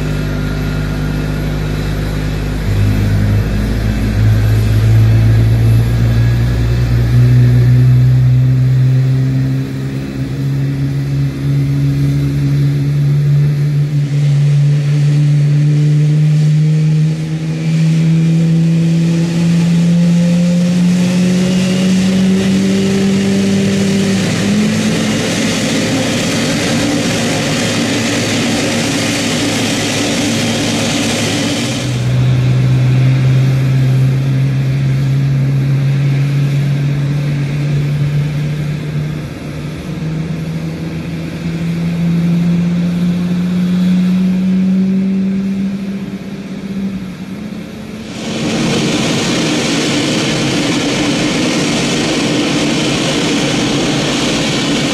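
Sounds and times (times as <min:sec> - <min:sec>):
jet engines droning: 0:00.0 - 0:54.9.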